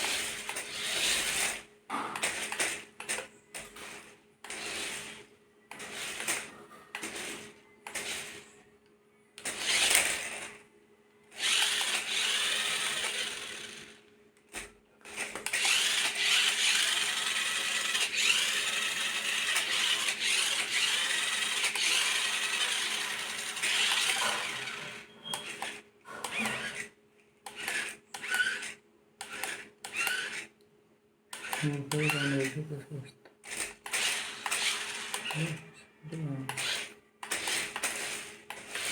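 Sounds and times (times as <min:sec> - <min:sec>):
toy car electric motor whirring: 0:00.0 - 0:08.5, 0:09.4 - 0:10.6, 0:11.3 - 0:30.6, 0:31.3 - 0:32.8, 0:33.4 - 0:38.9.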